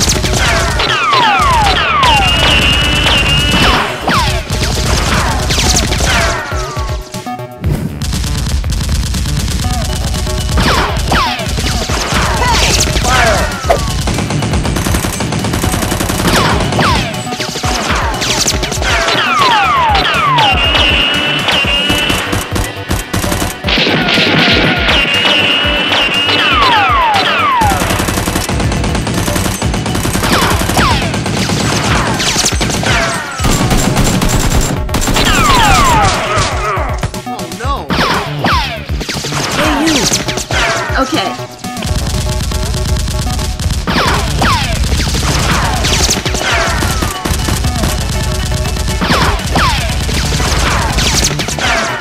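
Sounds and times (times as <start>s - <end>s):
rapid gunfire: 0.0s - 37.3s, 37.9s - 52.0s.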